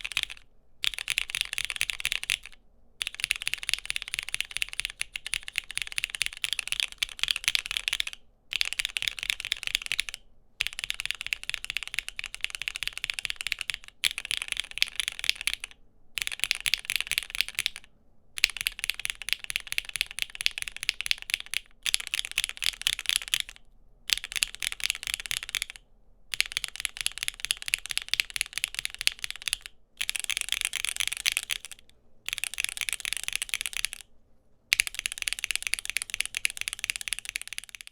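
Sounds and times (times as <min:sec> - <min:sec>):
mechanical keyboard typing: 0:00.0 - 0:34.0, 0:34.7 - 0:37.9.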